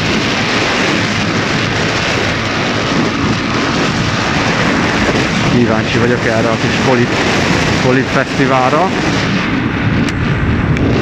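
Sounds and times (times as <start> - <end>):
motorcycle engine: 0.0 - 11.0
wind rush: 0.0 - 11.0.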